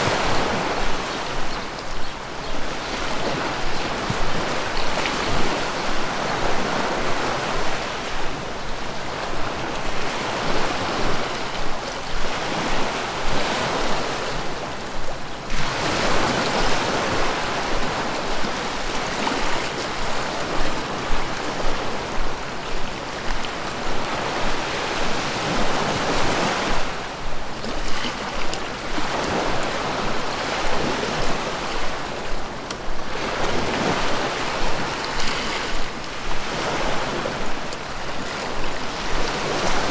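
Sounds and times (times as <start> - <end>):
ocean waves rolling onto beach: 0.0 - 39.9.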